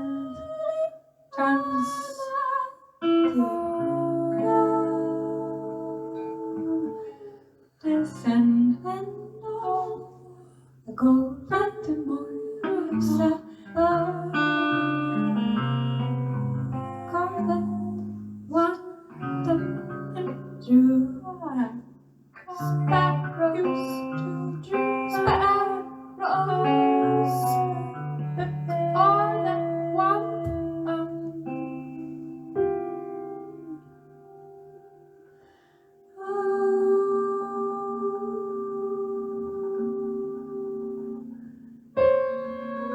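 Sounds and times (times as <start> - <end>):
guitar through effects: 0.0 - 42.9.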